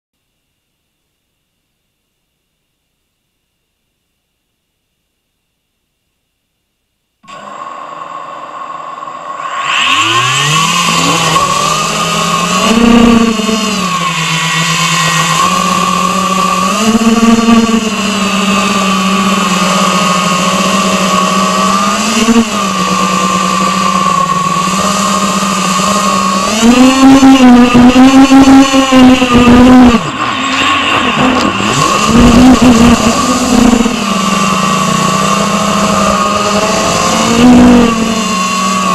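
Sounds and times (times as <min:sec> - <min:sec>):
quadcopter motors buzzing whine: 0:07.2 - 0:38.9.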